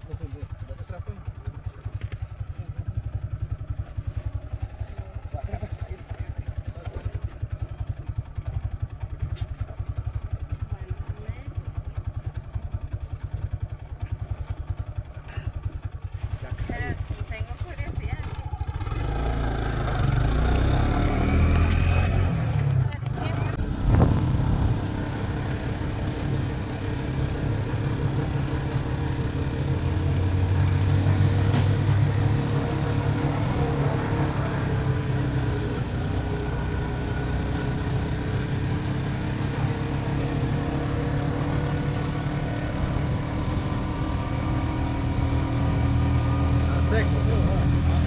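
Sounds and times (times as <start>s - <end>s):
motor rickshaw engine running: 0.0s - 48.0s.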